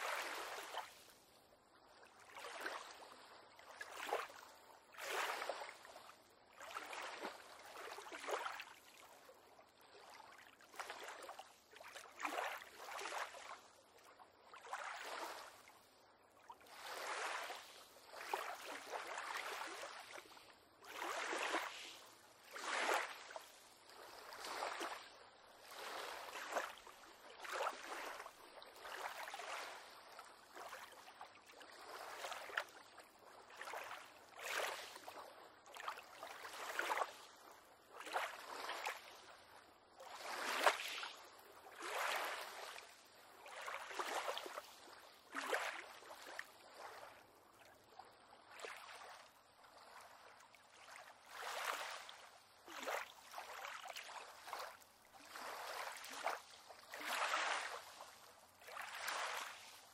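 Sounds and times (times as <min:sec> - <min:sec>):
small waves lapping against pier: 0:00.0 - 0:59.9.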